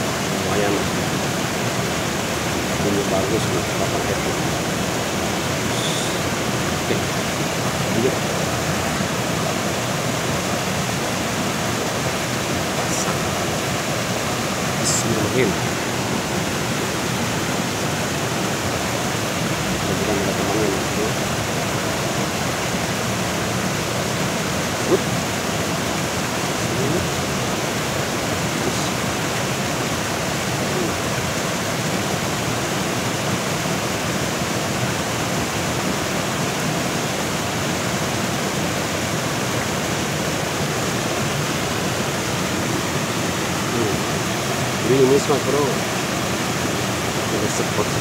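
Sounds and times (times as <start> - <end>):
waterfall rushing into pool: 0.0 - 48.0.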